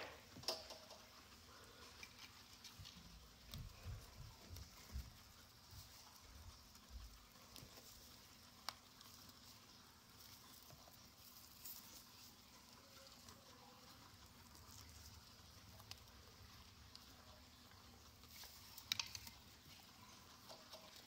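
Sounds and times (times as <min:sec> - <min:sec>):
guinea pigs munching hay: 0:00.0 - 0:21.0.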